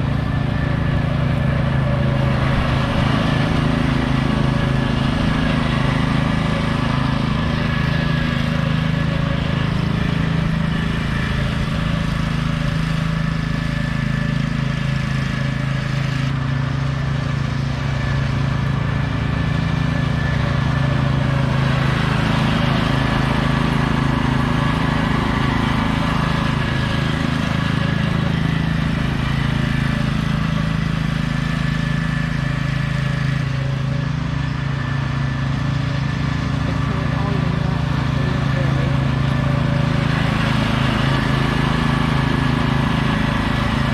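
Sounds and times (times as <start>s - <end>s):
riding lawn mower engine running: 0.0s - 43.9s.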